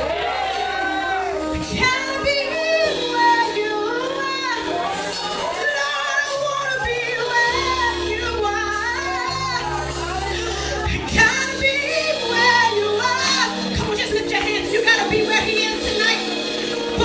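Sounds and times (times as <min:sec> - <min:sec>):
woman singing: 0:00.6 - 0:17.0.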